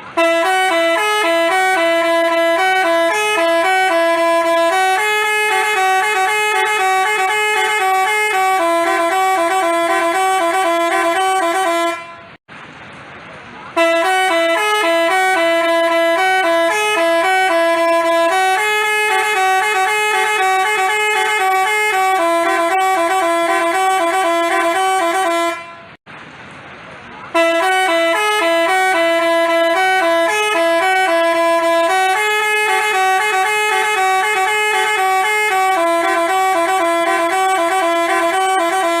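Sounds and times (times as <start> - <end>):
multi-tone bus horn tune: 0.0 - 12.4, 13.7 - 26.0, 27.3 - 39.0.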